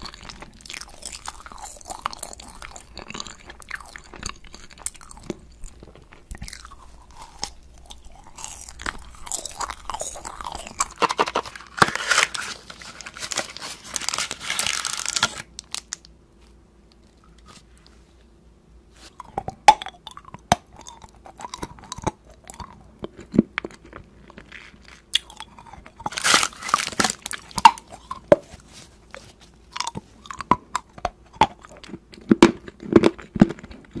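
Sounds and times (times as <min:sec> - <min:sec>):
crunching and chewing candy: 0:00.0 - 0:18.0, 0:19.0 - 0:34.0.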